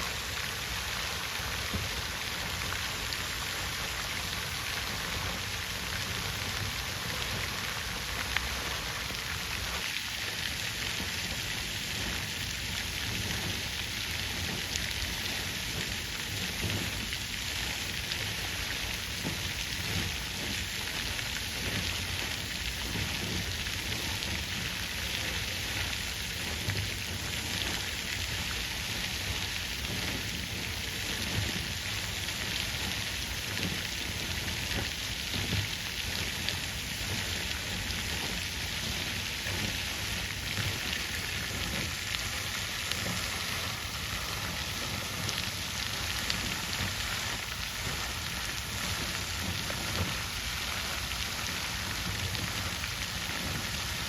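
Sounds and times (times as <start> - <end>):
water fountain splashing: 0.0 - 54.0.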